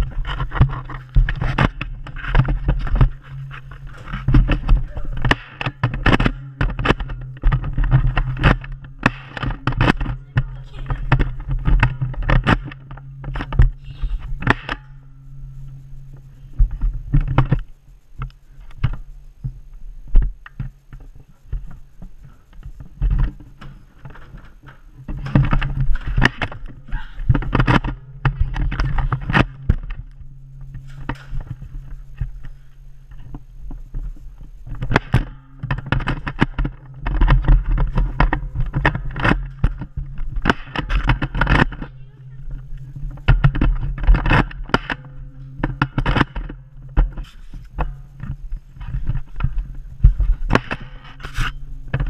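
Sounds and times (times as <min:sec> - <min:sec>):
camera handling rumble: 0:00.0 - 0:52.0
knocks and rustles: 0:00.0 - 0:52.0.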